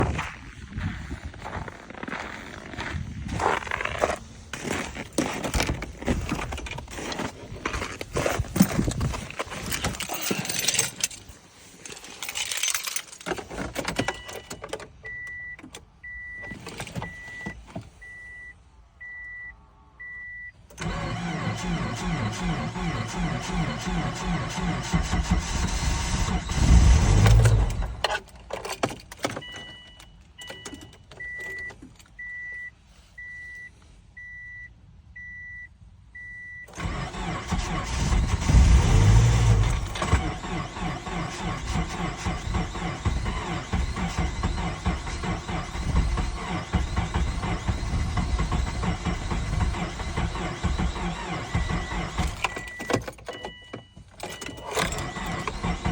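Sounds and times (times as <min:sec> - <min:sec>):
car starter cranking engine: 0:01.9 - 0:18.0, 0:20.6 - 0:32.2, 0:36.6 - 0:55.9.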